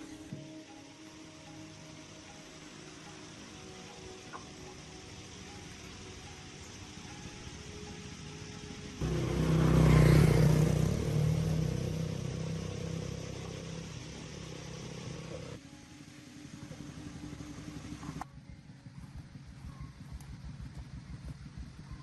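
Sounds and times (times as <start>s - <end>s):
tractor diesel engine: 0.0s - 15.8s, 16.4s - 22.0s.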